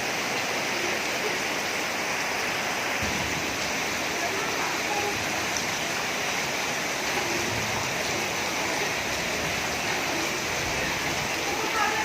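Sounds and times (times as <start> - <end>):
floodwater rushing: 0.0 - 12.0
heavy rain: 0.0 - 12.0.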